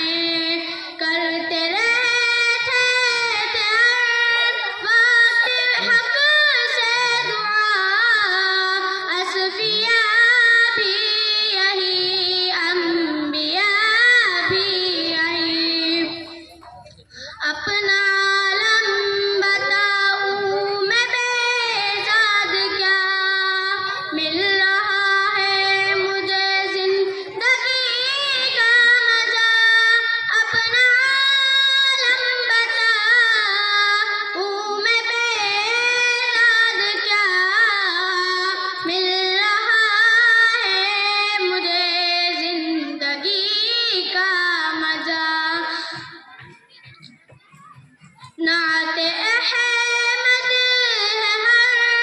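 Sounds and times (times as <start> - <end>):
girl singing into a microphone: 0.0 - 52.0.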